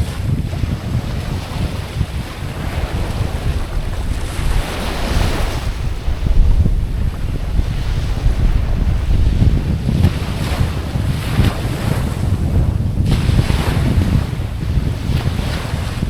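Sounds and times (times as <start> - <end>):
ocean waves washing in: 0.0 - 16.0
wind buffeting microphone: 0.0 - 16.0.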